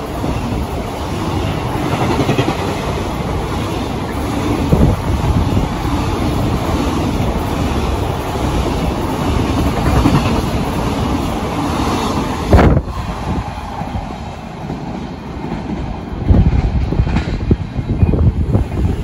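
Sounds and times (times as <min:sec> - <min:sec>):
freight train wheels clickety-clack: 0:00.0 - 0:19.0.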